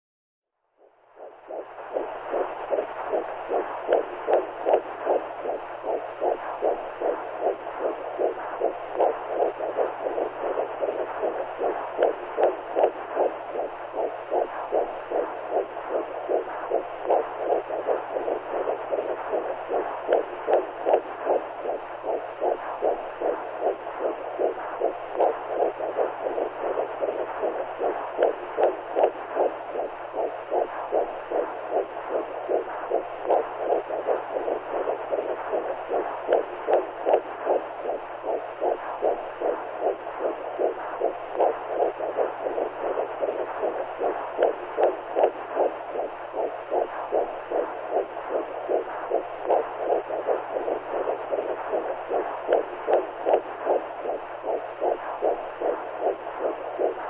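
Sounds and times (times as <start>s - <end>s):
heartbeat: 0.8s - 57.0s
low hum: 0.8s - 57.0s.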